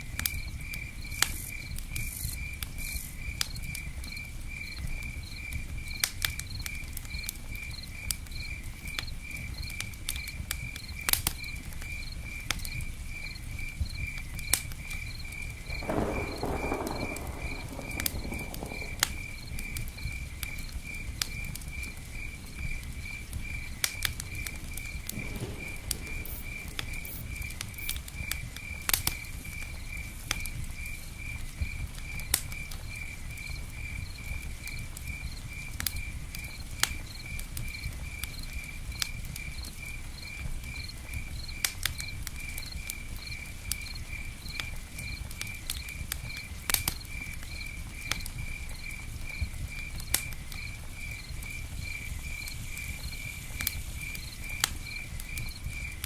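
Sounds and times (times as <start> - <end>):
campfire crackling and popping: 0.0 - 56.0
cricket chirping: 0.0 - 56.0.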